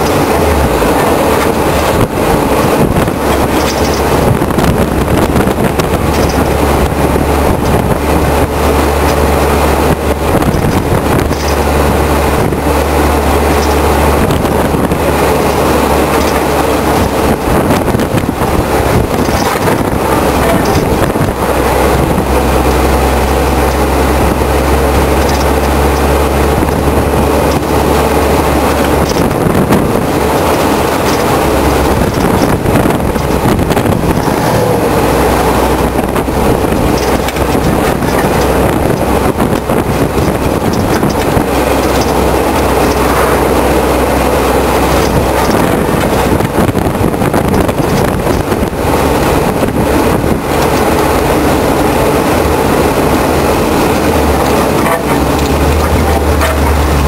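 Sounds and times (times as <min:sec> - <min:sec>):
car engine drone: 0:00.0 - 0:57.0
road rumble: 0:00.0 - 0:57.0
trailer hitch rattling and knocking: 0:00.0 - 0:57.0.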